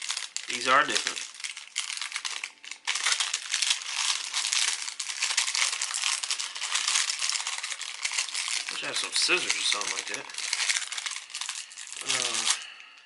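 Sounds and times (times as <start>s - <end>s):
envelope wrapping crinkling: 0.0s - 12.8s.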